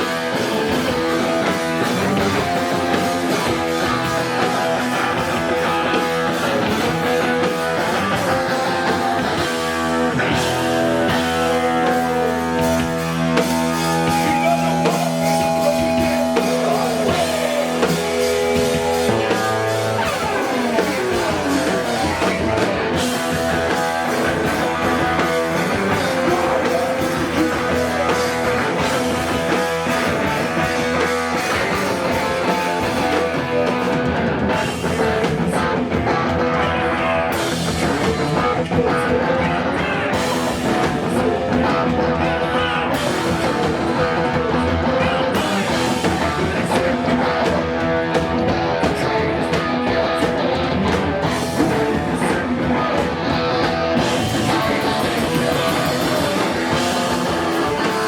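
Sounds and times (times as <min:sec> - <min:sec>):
drum kit: 0:00.0 - 0:58.0
electric guitars: 0:00.0 - 0:58.0
vocals: 0:00.0 - 0:58.0.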